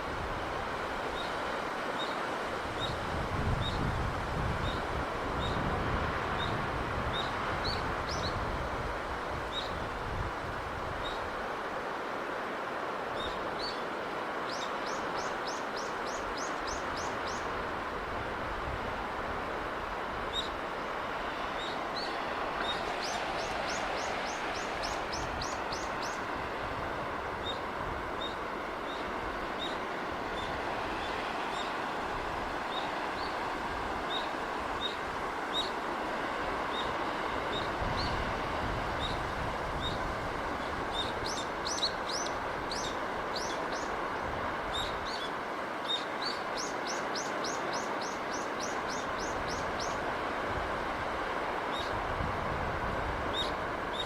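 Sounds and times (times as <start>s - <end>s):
rushing sea breeze: 0.0s - 54.0s.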